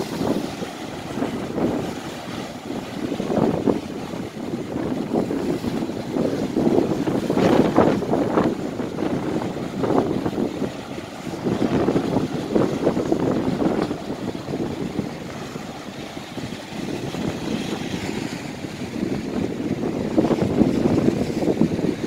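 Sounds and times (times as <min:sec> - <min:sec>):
sea waves breaking on rocks: 0:00.0 - 0:22.0
wind buffeting microphone: 0:00.0 - 0:22.0.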